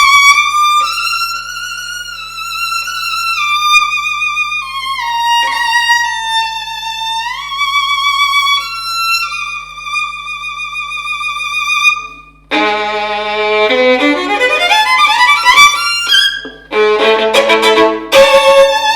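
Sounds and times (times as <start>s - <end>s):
solo violin bowed: 0.0s - 18.9s.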